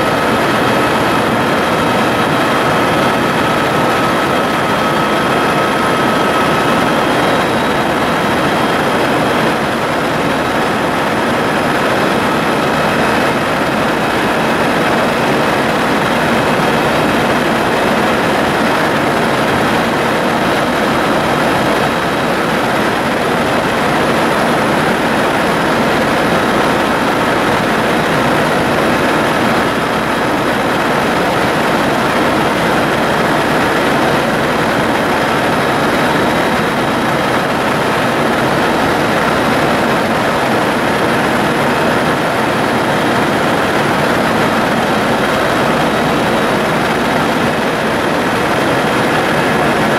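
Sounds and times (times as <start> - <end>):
helicopter engine and rotor noise: 0.0 - 49.9.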